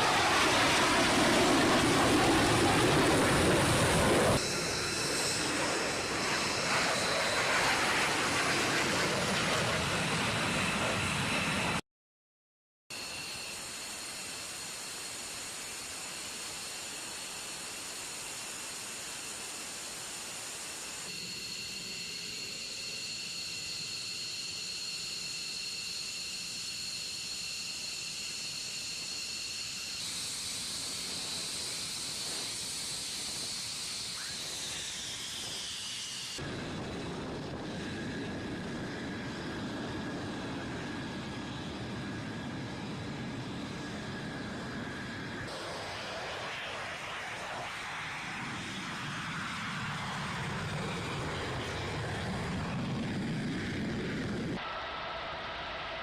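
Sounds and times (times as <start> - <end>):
jet engine whining: 0.0 - 11.8, 13.0 - 56.0.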